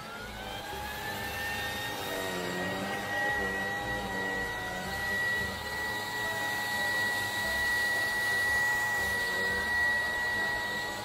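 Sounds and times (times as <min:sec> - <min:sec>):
vacuum cleaner motor whine: 0:00.0 - 0:11.0.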